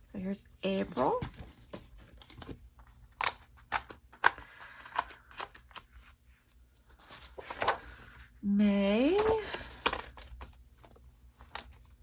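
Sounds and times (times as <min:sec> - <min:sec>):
paper pages rustling: 0:00.8 - 0:08.3, 0:09.0 - 0:12.0.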